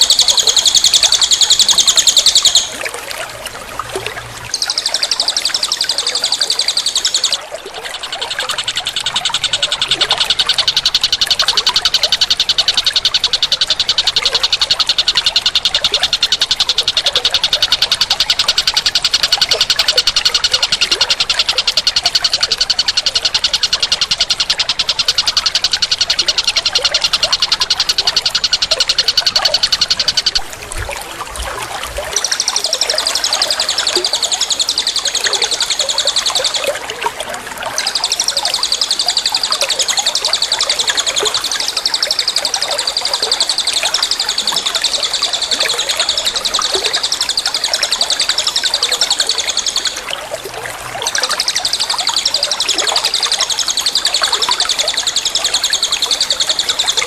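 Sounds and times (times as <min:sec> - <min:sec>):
faint scattered chirps: 0:00.0 - 0:02.9, 0:03.9 - 0:30.8, 0:31.5 - 0:36.8, 0:37.7 - 0:57.0.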